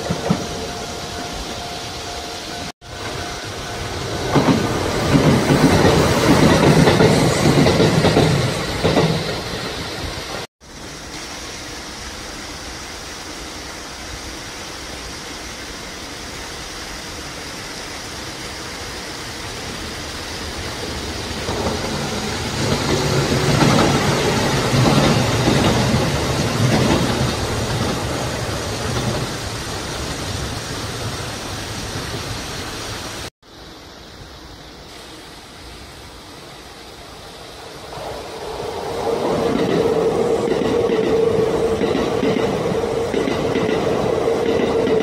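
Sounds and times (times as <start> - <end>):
electric train passing: 0.0 - 45.0.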